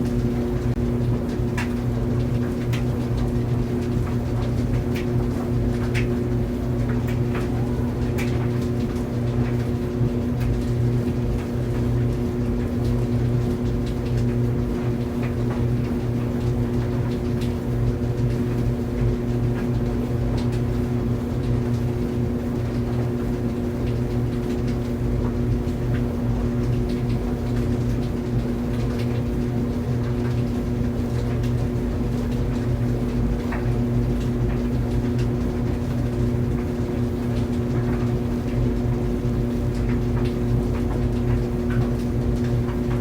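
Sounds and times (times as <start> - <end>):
laundry dryer humming: 0.0 - 43.0.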